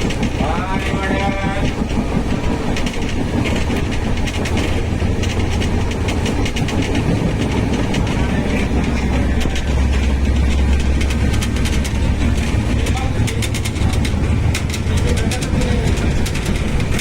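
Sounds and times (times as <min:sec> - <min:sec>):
train rumbling: 0:00.0 - 0:17.0
wheels clicking over rail joints: 0:00.0 - 0:17.0.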